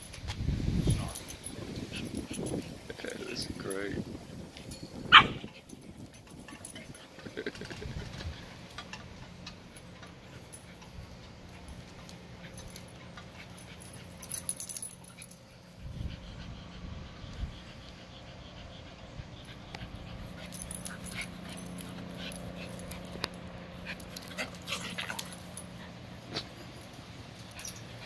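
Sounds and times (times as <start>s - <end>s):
dogs play-fighting vocalizing: 1.0s - 3.1s, 4.1s - 28.0s.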